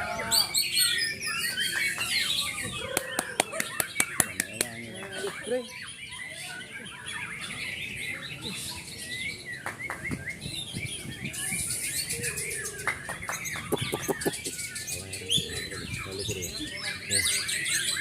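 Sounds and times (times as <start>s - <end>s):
birds chirping high calls: 0.0s - 18.0s.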